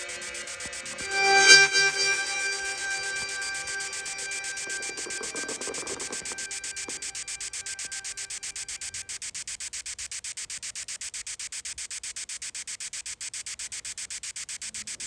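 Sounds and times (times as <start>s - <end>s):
pulsing static hiss: 0.0s - 15.0s.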